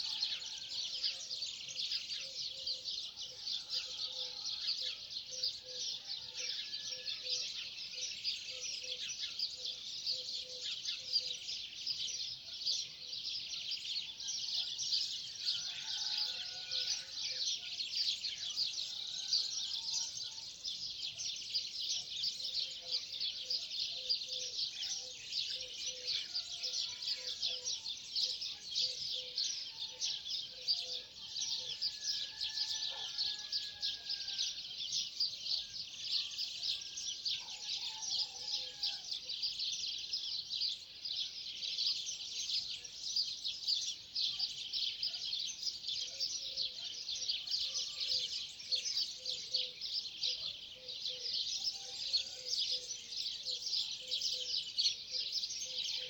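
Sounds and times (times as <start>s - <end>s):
small birds chirping: 0.0s - 14.9s, 15.6s - 56.0s.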